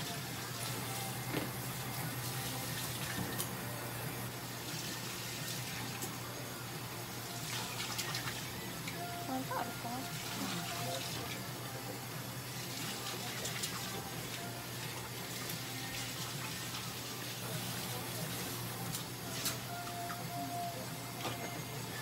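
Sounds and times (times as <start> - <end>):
running water from a tap: 0.0 - 20.2.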